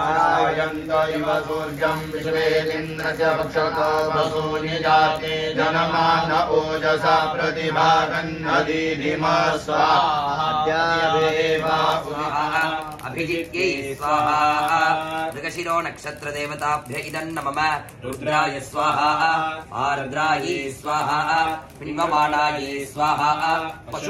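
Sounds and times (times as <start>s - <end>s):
men chanting: 0.0s - 24.0s.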